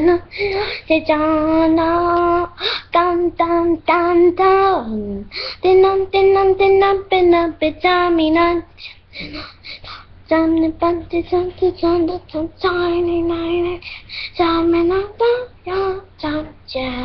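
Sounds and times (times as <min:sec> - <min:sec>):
boy singing wordless tune: 0:00.0 - 0:17.0.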